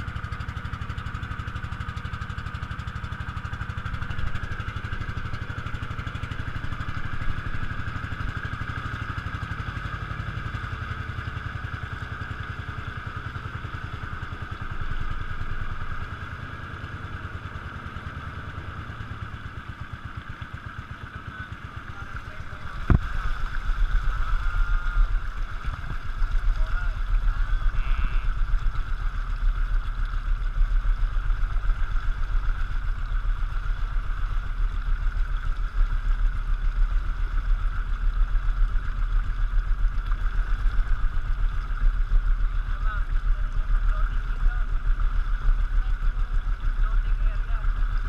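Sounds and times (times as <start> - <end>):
boat engine running: 0.0 - 48.0
rushing water splashing: 0.0 - 48.0.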